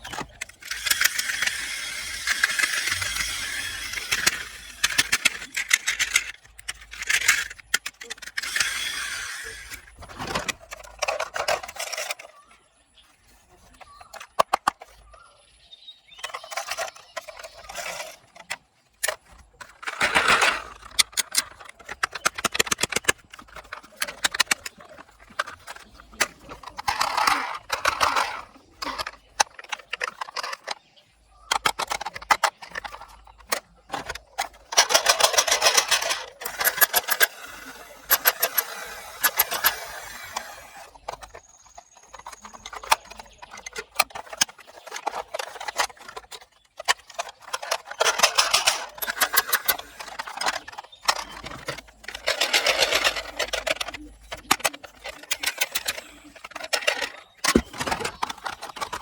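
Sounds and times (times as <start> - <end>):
plastic toy clicks and knocks: 0.0 - 15.4, 16.1 - 59.0
plastic toys rattling and scraping: 0.0 - 59.0.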